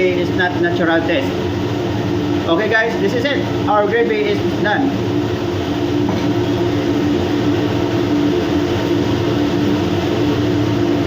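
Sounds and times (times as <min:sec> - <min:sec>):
ventilation fan humming: 0:00.0 - 0:11.0.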